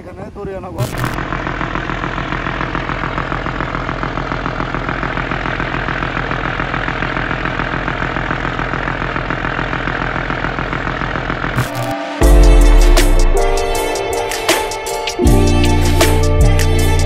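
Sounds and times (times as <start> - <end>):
boat engine throbbing: 0.8 - 17.0.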